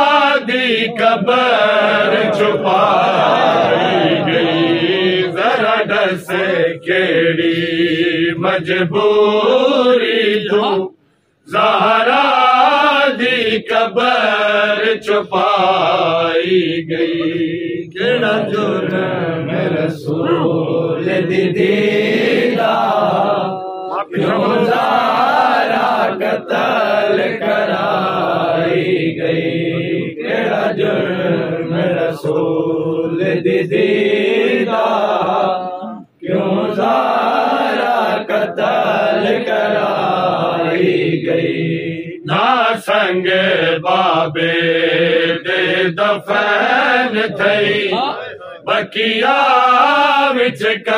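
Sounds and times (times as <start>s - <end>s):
men chanting in unison: 0.0s - 50.9s.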